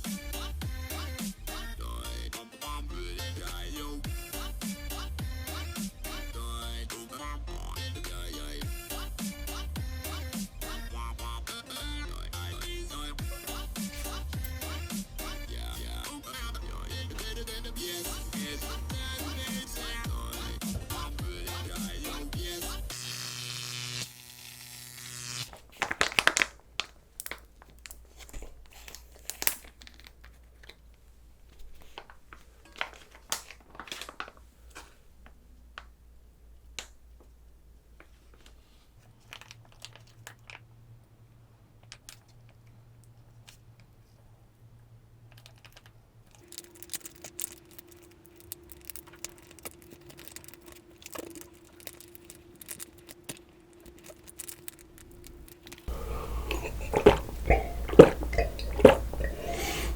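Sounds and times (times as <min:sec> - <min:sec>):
faint steady hum: 0:02.8 - 0:59.9.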